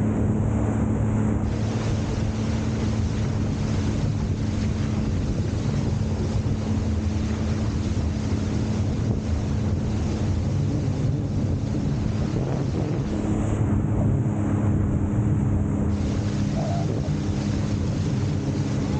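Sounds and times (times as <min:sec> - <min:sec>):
jet ski engine running: 0:00.0 - 0:18.9
water rushing past: 0:00.0 - 0:18.9
wind buffeting microphone: 0:00.0 - 0:18.9.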